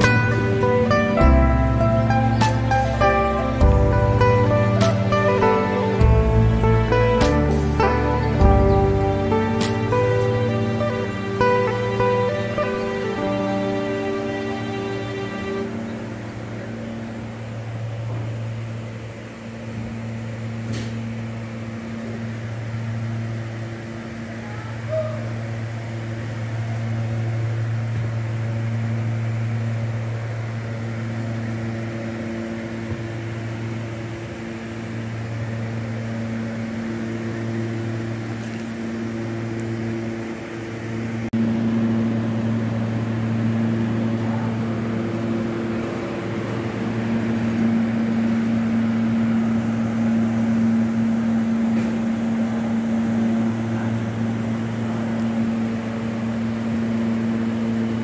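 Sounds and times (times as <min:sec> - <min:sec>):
ship machinery hum: 0:00.0 - 0:58.0.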